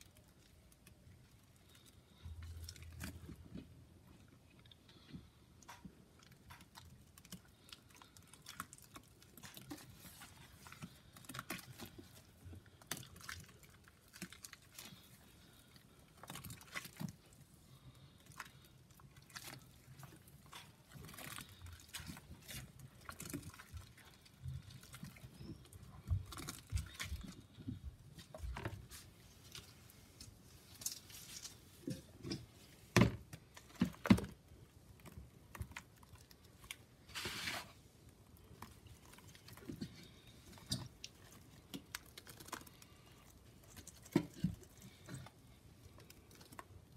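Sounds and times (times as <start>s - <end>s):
paste squishing and crumbling: 0.0s - 46.9s.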